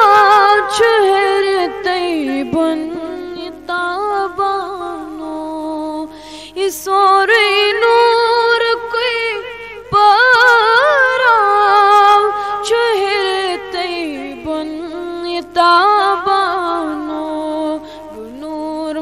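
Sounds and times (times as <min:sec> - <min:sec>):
person singing ornamented melody: 0:00.0 - 0:19.0.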